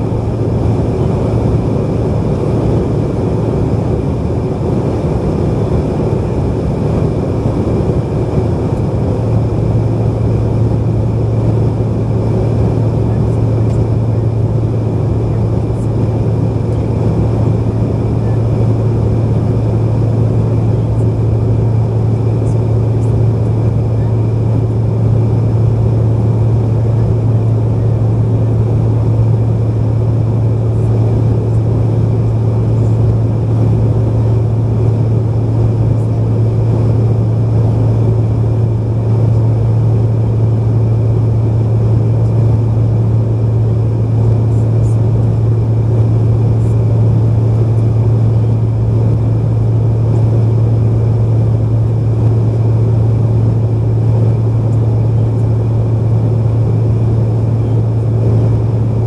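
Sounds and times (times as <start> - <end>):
faint high whine: 0.0 - 59.0
jet engines droning: 0.0 - 59.0.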